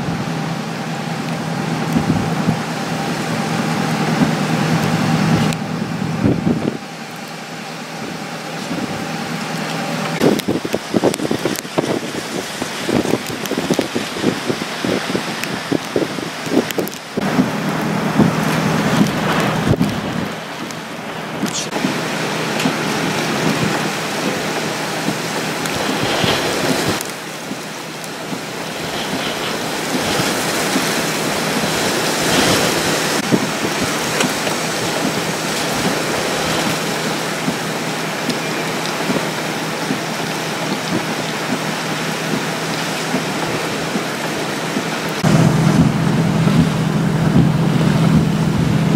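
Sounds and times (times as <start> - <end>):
gusting wind: 0.0 - 48.9
steady rain: 0.0 - 48.9.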